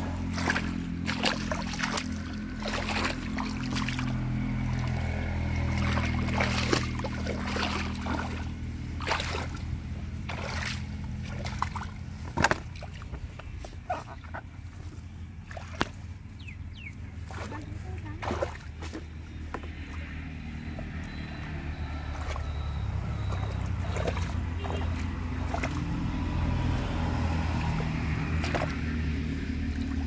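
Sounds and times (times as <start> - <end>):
steady low hum: 0.0 - 30.0
water splashing in muddy pond: 0.0 - 30.0.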